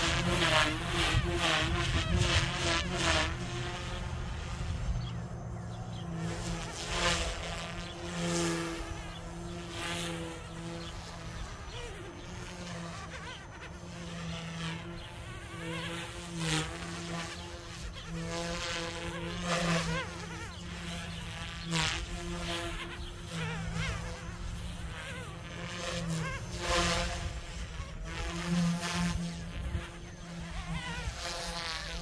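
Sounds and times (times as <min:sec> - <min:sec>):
rc helicopter buzzing whine: 0:00.0 - 0:32.0.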